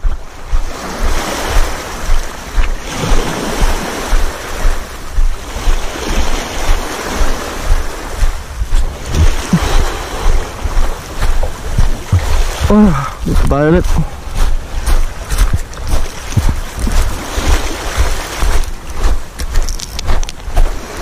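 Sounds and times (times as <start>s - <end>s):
footsteps crunching on pebbles: 0.0s - 21.0s
small waves on pebble shore: 0.0s - 21.0s
wind buffeting microphone: 0.0s - 21.0s.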